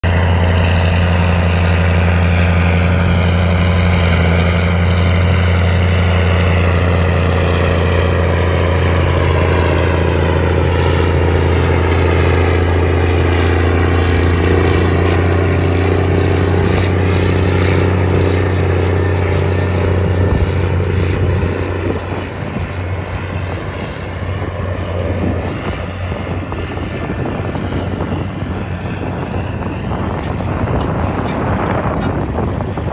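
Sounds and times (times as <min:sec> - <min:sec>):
diesel tractor engine drone: 0:00.0 - 0:32.9.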